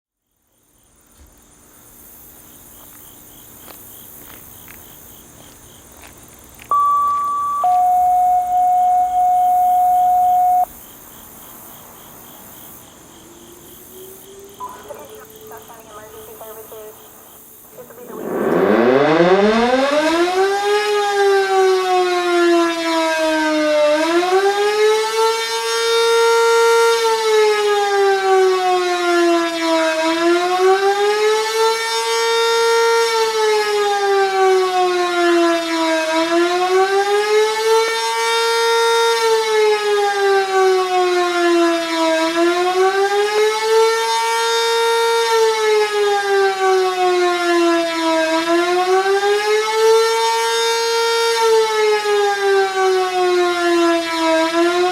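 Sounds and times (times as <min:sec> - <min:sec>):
warning siren wailing: 0:06.7 - 0:10.7, 0:13.2 - 0:54.9.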